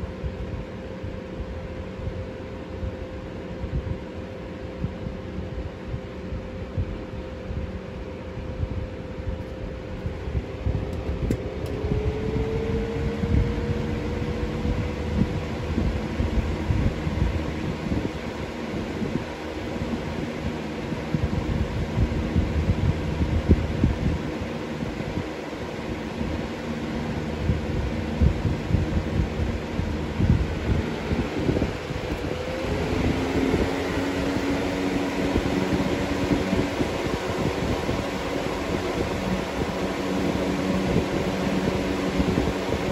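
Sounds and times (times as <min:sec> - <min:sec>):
box fan running: 0:00.0 - 0:42.9
low motor hum: 0:00.0 - 0:42.9.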